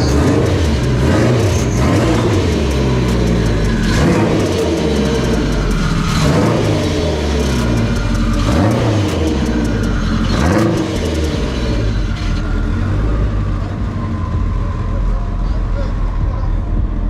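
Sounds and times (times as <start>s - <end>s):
car engine idling unevenly: 0.0s - 17.0s
engine revving: 0.0s - 17.0s
exhaust crackles: 0.0s - 17.0s.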